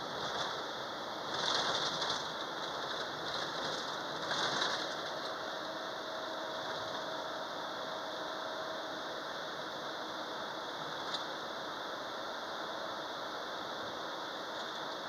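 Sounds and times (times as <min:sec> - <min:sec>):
bus road and engine noise: 0:00.0 - 0:15.0
faint steady whine: 0:00.0 - 0:15.0.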